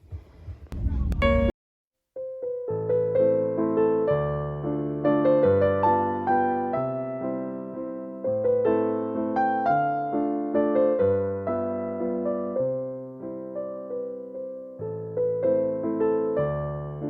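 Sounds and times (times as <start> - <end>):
gentle piano music: 2.2 - 17.0.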